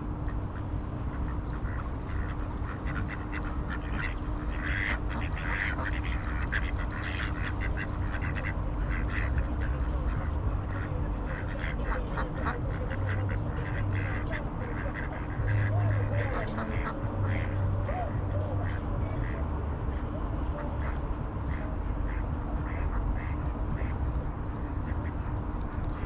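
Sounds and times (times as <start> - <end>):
steady low rumble: 0.0 - 26.0
ducks quacking: 0.2 - 26.0.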